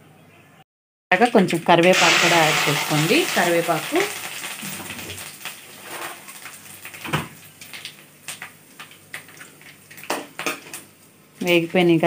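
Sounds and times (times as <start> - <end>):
spices sizzling in hot oil: 1.6 - 11.6.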